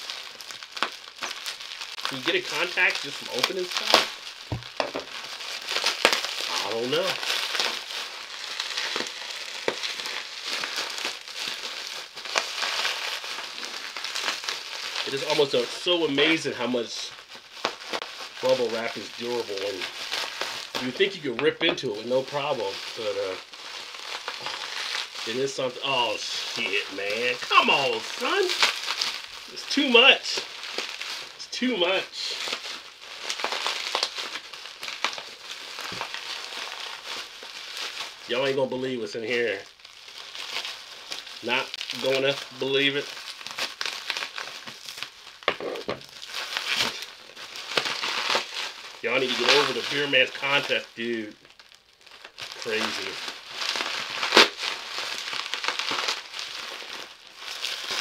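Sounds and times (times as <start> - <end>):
bubble wrap crinkling: 0.0 - 58.0.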